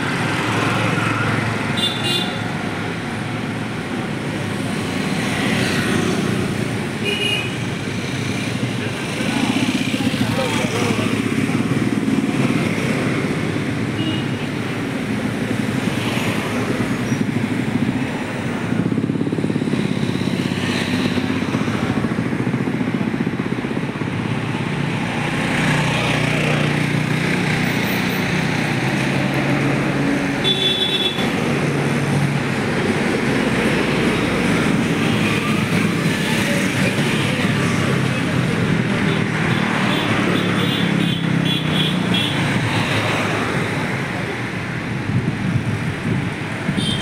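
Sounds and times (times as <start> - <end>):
cars passing: 0.0 - 47.0
motorcycles passing: 0.0 - 47.0.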